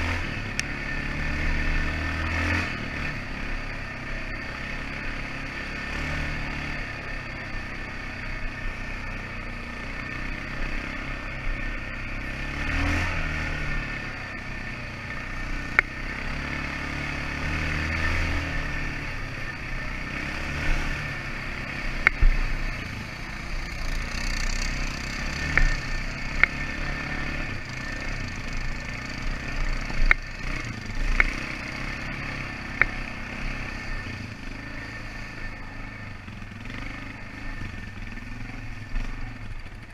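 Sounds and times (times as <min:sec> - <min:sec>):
engine running at low revs: 0:00.0 - 0:39.9.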